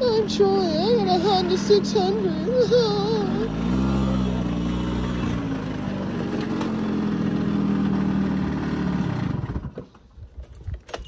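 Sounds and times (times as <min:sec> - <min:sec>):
engine idling: 0:00.0 - 0:09.7.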